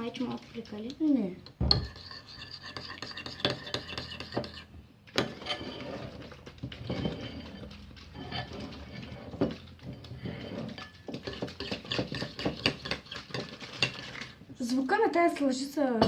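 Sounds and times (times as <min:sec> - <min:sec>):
spoon scraping a bowl: 0:01.5 - 0:14.4.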